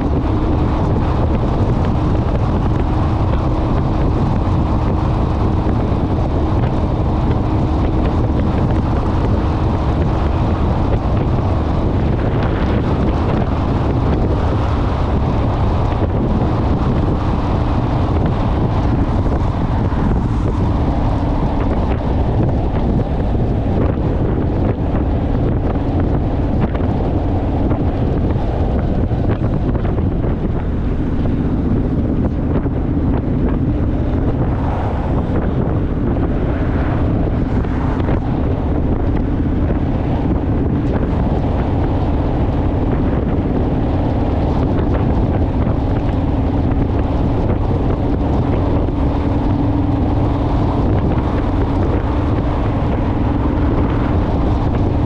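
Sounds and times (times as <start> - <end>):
motorcycle engine hum: 0.0 - 55.0
wind rushing over microphone: 0.0 - 55.0.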